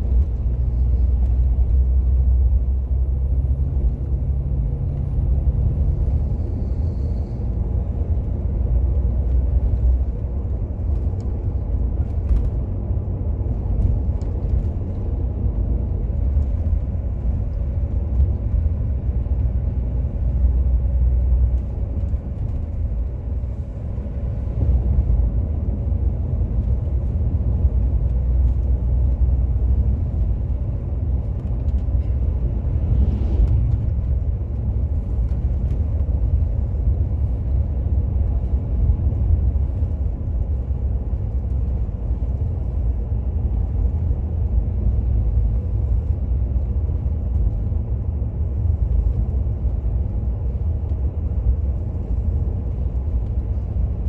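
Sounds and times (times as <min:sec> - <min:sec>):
bus engine and tyre rumble: 0:00.0 - 0:54.0.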